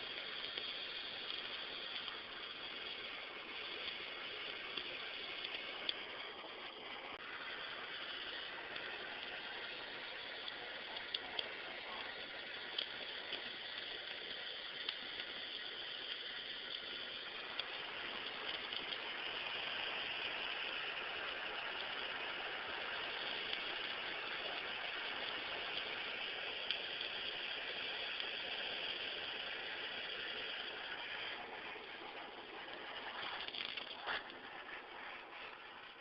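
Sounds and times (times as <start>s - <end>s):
torch flame hissing: 0.0s - 36.0s.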